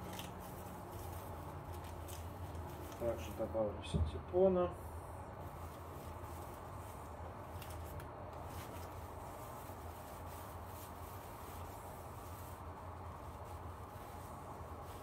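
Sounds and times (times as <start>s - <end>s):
paper filler rustling and crinkling: 0.0s - 3.7s, 5.4s - 15.0s
steady low hum: 0.0s - 15.0s.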